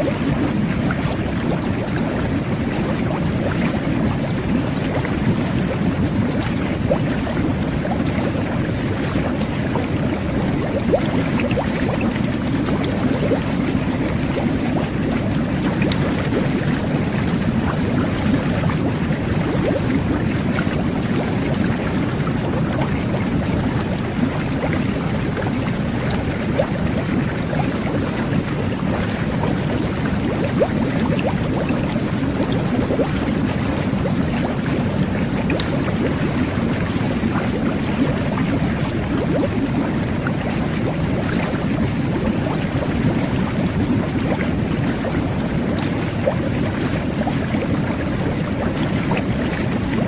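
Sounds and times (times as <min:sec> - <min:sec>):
bubbling pops: 0:00.0 - 0:50.0
water jets churning tub: 0:00.0 - 0:50.0.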